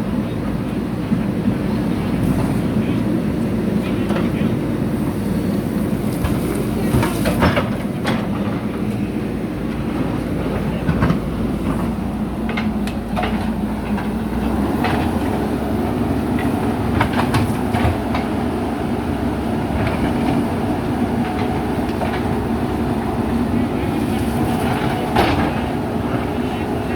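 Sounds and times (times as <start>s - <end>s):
backhoe diesel engine running: 0.0s - 26.9s.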